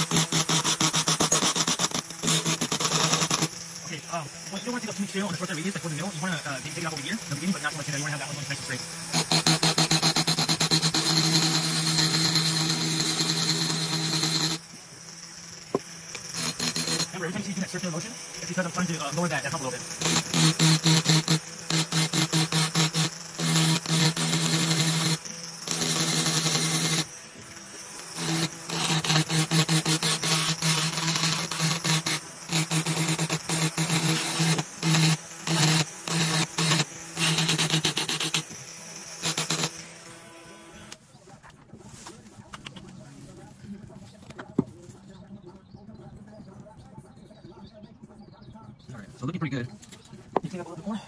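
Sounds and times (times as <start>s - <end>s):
rotary tool grinding metal: 0.0s - 41.2s.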